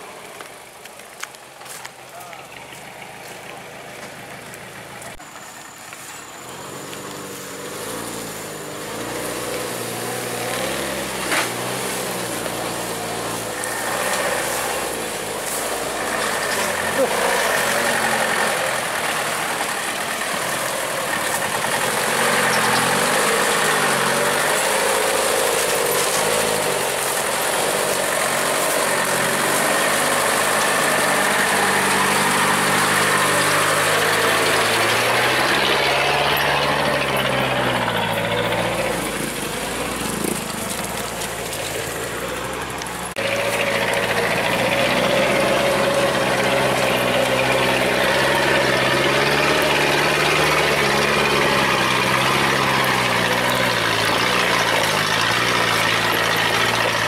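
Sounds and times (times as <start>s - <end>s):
truck engine running under load: 0.0s - 57.0s.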